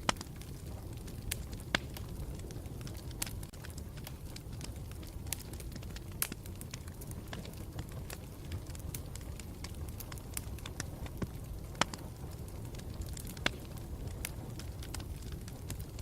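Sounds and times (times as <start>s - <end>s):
campfire rumbling: 0.0s - 16.0s
wood crackling and popping: 0.0s - 16.0s.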